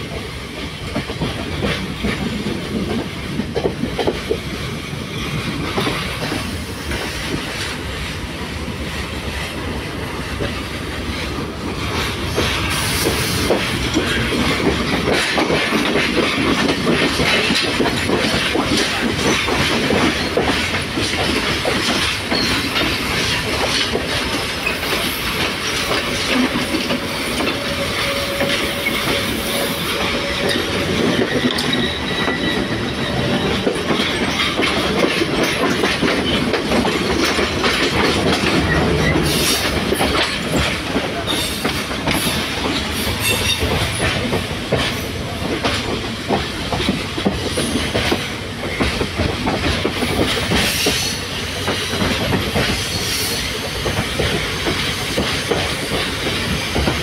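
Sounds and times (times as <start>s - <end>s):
passing train on next track: 0.0s - 57.0s
train rumble: 0.0s - 57.0s
wheels clacking over rail joints: 0.0s - 57.0s.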